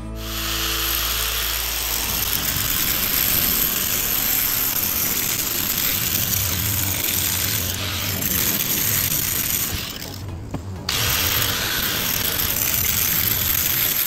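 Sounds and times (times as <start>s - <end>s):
angle grinder cutting concrete: 0.0s - 14.0s.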